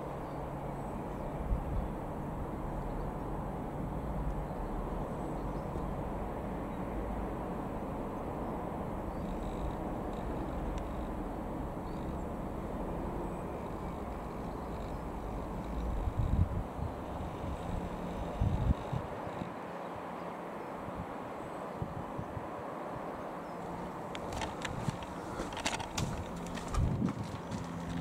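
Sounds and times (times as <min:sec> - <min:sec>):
distant propeller aircraft drone: 0:00.0 - 0:28.0.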